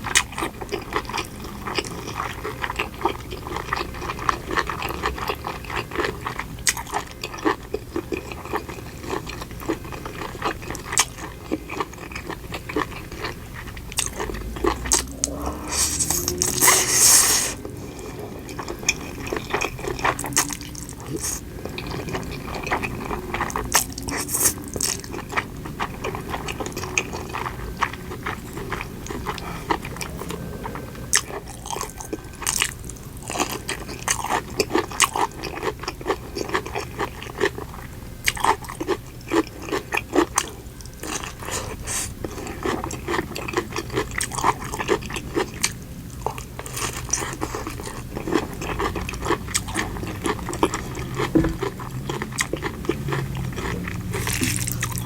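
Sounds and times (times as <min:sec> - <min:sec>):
crunching bites and chewing: 0:00.0 - 0:55.0.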